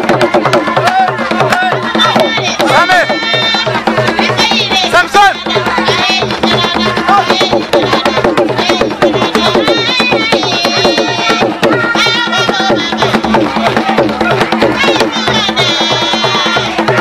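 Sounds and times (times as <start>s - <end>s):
fast dance drumming: 0.0s - 17.0s
many voices singing: 0.0s - 17.0s.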